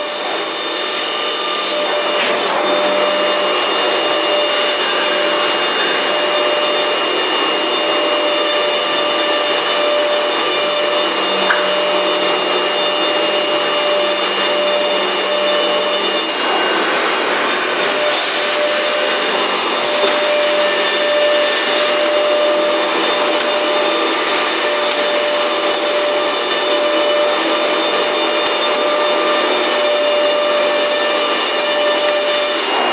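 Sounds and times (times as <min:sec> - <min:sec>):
dust extraction suction rushing: 0:00.0 - 0:32.9
high whine of spindles: 0:00.0 - 0:32.9.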